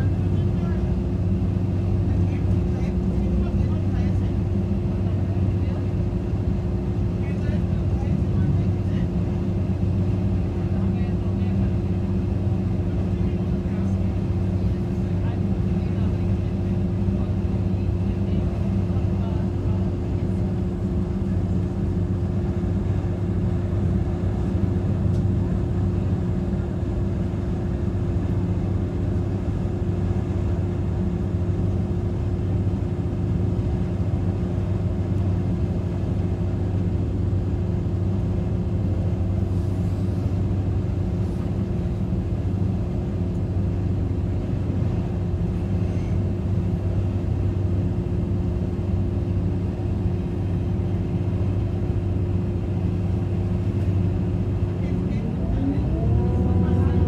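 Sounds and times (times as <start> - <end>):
train interior drone: 0.0 - 57.0
wheels rumbling on track: 0.0 - 57.0.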